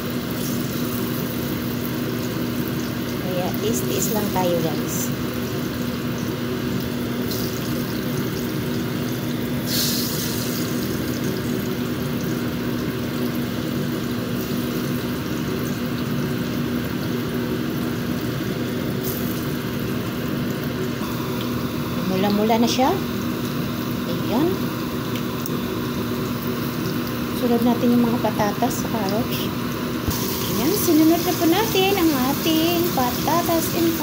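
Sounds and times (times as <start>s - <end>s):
oil sizzling in a frying pan: 0.0s - 34.0s.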